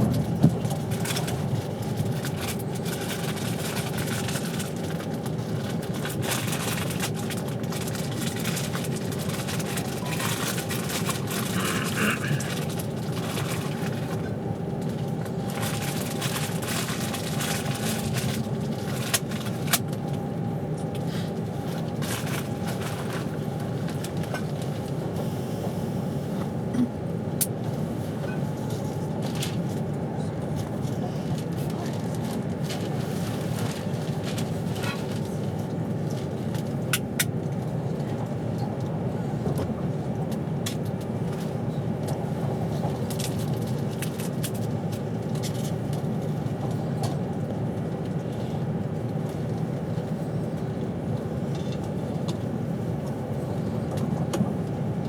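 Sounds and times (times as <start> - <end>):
constant hum: 0.0 - 55.0
train rumble: 0.0 - 55.0.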